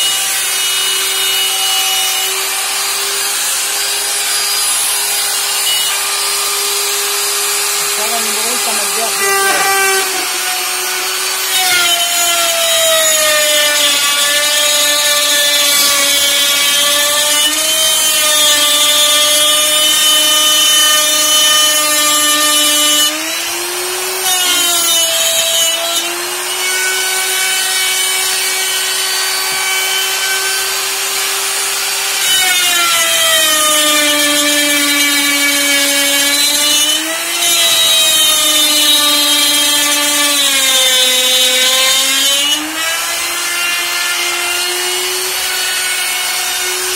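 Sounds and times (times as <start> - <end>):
router cutting wood: 0.0 - 46.9.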